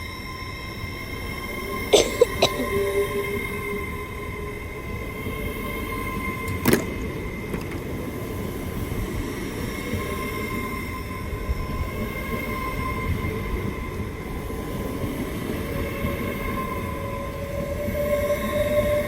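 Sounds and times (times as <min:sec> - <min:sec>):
high train whines: 0:00.0 - 0:01.9, 0:02.6 - 0:19.0
low train whine: 0:00.0 - 0:01.9, 0:02.7 - 0:19.0
train rumbling: 0:02.8 - 0:19.0.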